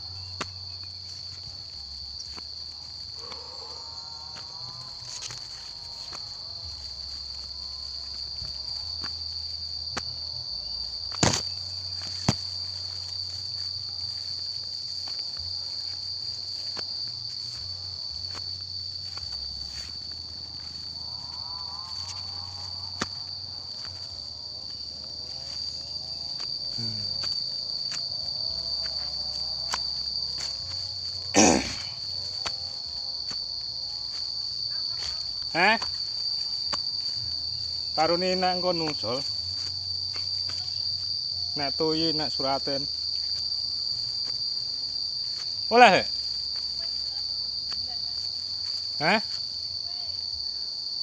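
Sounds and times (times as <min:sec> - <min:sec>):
insects shrilling: 0:00.0 - 0:51.0.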